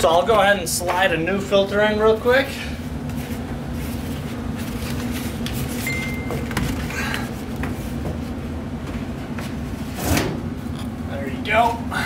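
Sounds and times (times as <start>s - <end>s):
furnace blower running: 0.0s - 12.0s.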